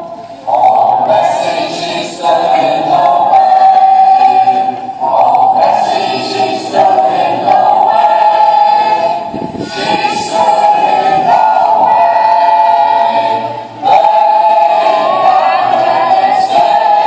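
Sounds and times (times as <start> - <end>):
choir singing long chords: 0.0 - 17.0.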